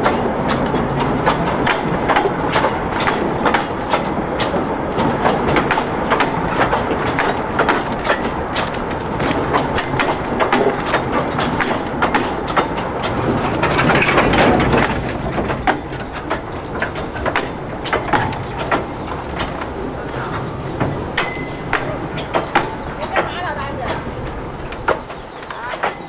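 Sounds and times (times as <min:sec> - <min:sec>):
train rumble: 0:00.0 - 0:26.0
train wheels clicking over rail joints: 0:00.0 - 0:26.0.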